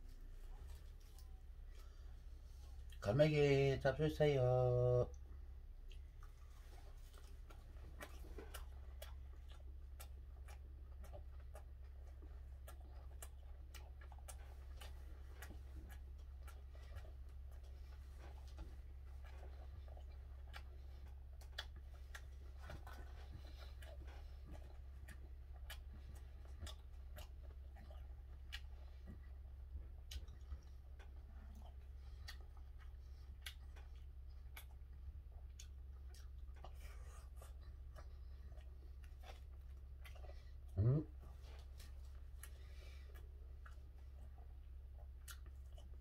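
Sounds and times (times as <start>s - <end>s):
steady low hum: 0.0s - 46.0s
wet chewing mouth sounds: 0.0s - 46.0s.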